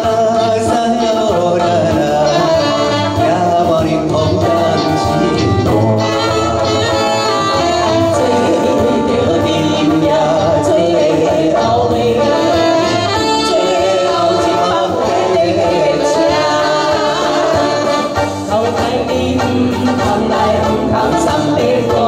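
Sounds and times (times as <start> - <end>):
amplified light-music band: 0.0 - 22.0
man and woman singing duet: 0.0 - 22.0.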